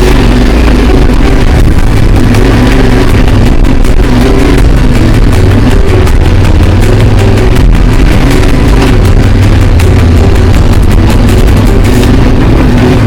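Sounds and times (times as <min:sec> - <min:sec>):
motorcycle engine running under load: 0:00.0 - 0:13.0
rushing noise: 0:00.0 - 0:13.0.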